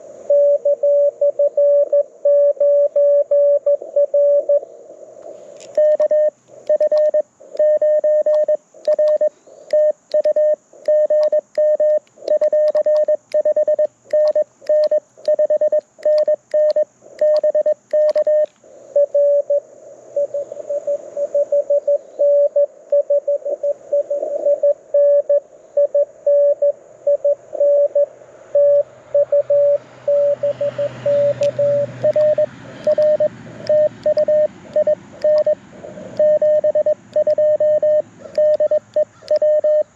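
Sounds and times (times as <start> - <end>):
morse code tones: 0.0 - 4.6, 5.8 - 19.6, 20.2 - 39.9
faint radio band hiss: 0.0 - 39.9.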